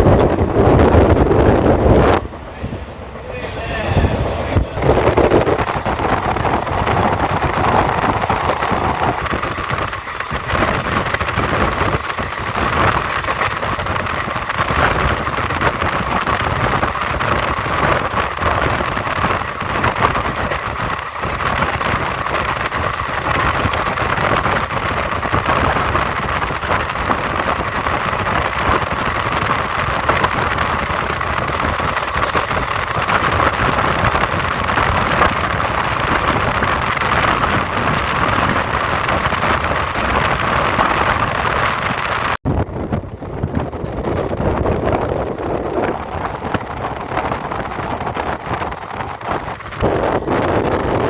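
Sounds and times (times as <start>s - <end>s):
passenger train rumbling: 0.0s - 51.0s.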